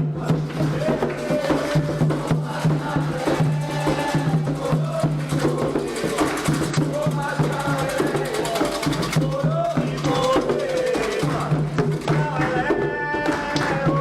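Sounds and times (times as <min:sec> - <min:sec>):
drums and percussion rhythm: 0:00.0 - 0:14.0
voices singing: 0:00.0 - 0:14.0.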